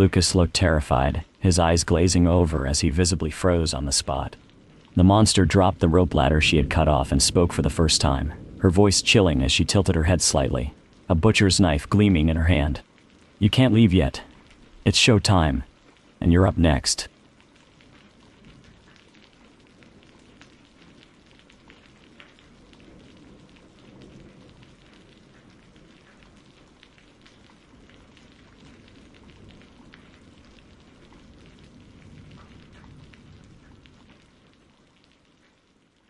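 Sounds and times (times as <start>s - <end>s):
steady rain falling: 0.0s - 36.0s
water drips ticking: 0.0s - 36.0s.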